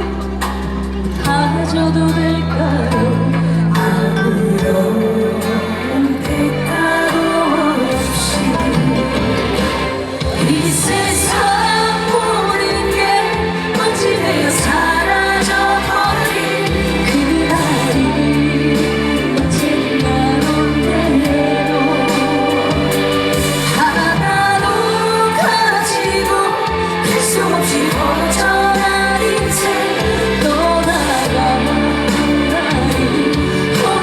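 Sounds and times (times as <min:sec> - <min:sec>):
amplified band backing track: 0:00.0 - 0:34.0
woman singing a ballad: 0:00.0 - 0:34.0.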